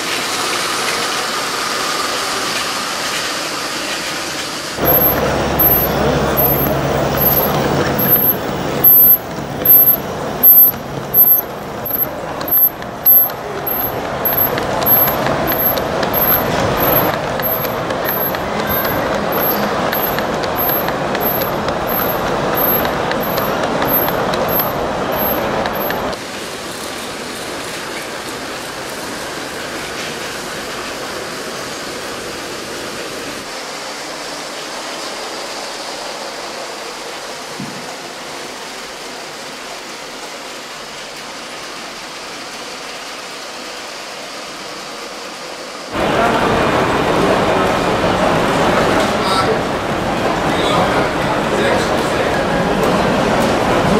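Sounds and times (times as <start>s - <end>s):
model train rolling rumble: 0.0s - 53.9s
toy trains on plastic track: 0.0s - 53.9s.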